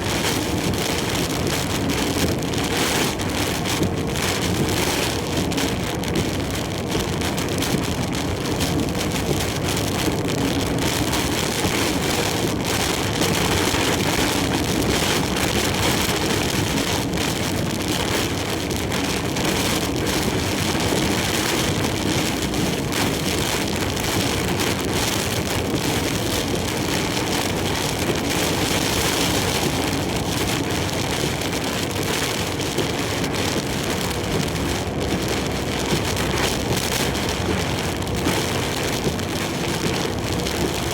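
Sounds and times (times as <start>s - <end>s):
heavy rain beating on truck: 0.0s - 40.9s.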